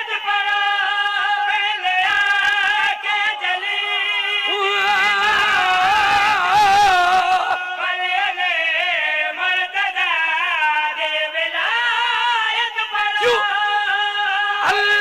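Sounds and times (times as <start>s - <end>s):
solo voice chanting: 0.0s - 15.0s.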